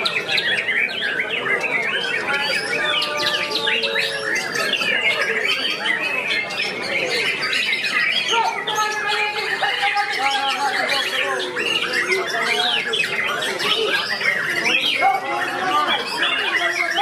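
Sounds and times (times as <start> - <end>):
many birds singing: 0.0 - 17.0.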